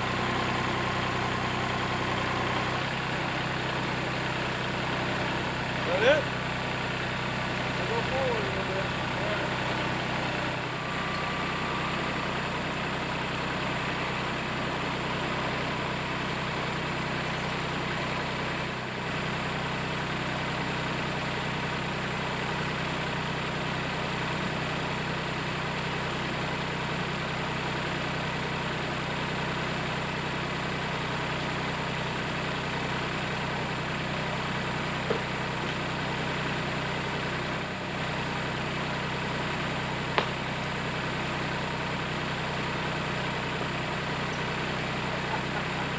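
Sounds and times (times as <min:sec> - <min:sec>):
tractor diesel engine idling: 0:00.0 - 0:45.9.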